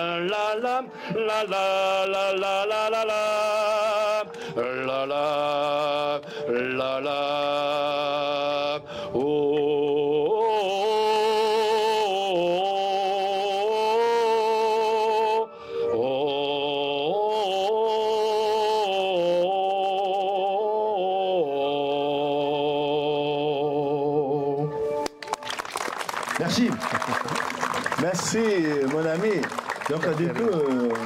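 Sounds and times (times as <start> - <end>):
wordless singing: 0.0 - 25.0.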